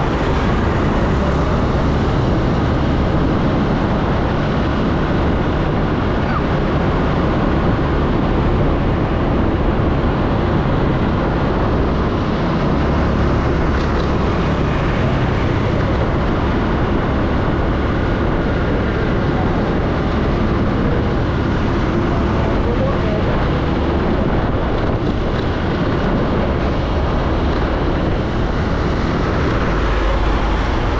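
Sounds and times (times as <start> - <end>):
motorbike engines humming: 0.0 - 30.9
road noise: 0.0 - 30.9
wind rush: 0.0 - 30.9.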